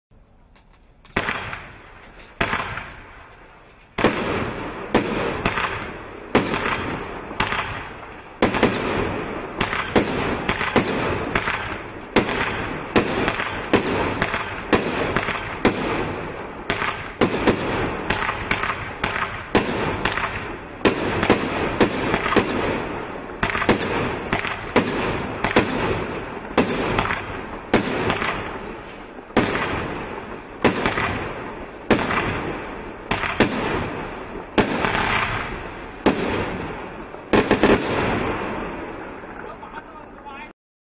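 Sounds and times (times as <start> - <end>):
firework cake shots: 0.5 - 40.3.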